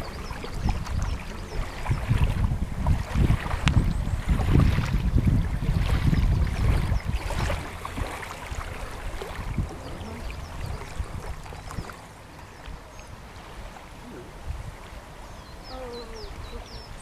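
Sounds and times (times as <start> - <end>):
waves lapping on stony shore: 0.0 - 17.0
wind rumbling on microphone: 0.0 - 17.0.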